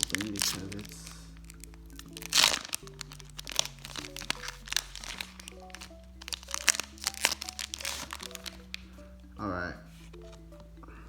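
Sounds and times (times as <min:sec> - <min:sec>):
foil wrapper crinkling and tearing: 0:00.0 - 0:08.9
background music with held notes: 0:00.0 - 0:11.0.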